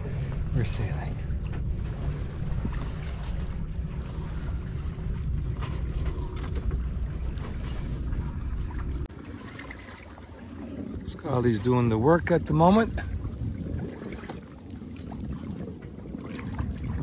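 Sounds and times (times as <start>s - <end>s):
wind on microphone: 0.0s - 9.6s, 10.3s - 17.0s
water washing along hull: 0.0s - 17.0s.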